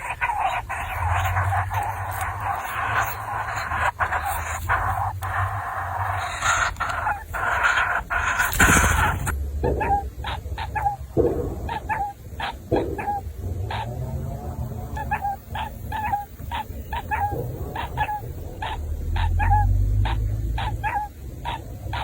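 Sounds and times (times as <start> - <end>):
baby bird chirping: 0.0 - 14.0, 14.8 - 22.0.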